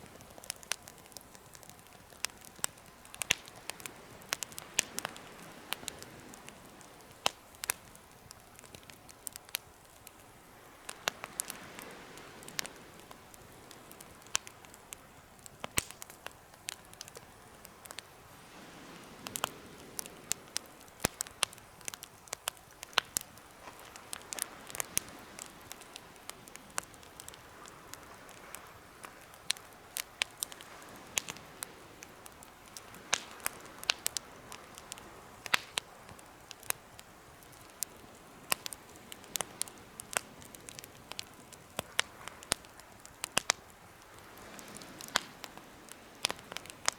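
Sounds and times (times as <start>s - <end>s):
campfire crackling and popping: 0.0s - 46.9s
hiss of flames: 0.0s - 46.9s.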